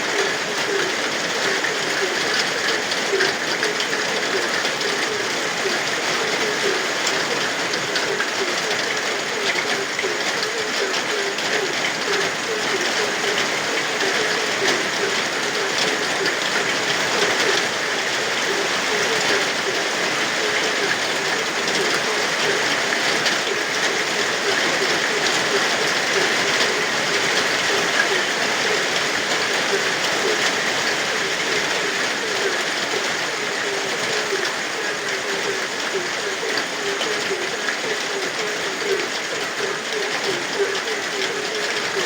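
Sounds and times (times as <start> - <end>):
frogs croaking: 0.0 - 42.0
steady rain: 0.0 - 42.0.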